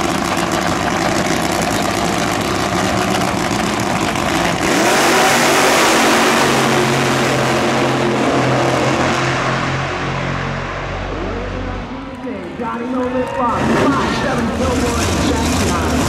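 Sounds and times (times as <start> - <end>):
drag racing engine at full throttle: 0.0 - 16.0.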